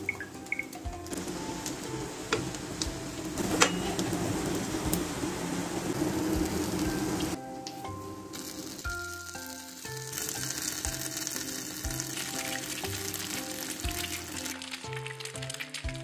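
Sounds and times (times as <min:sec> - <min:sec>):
background music: 0:00.0 - 0:16.0
omelette sizzling in frying pan: 0:00.0 - 0:16.0.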